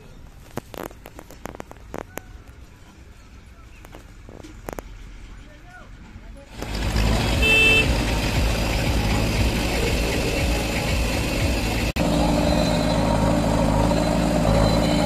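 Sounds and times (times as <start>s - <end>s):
backhoe loader diesel engine hum: 0.0s - 15.0s
diesel tractor engine: 0.0s - 15.0s.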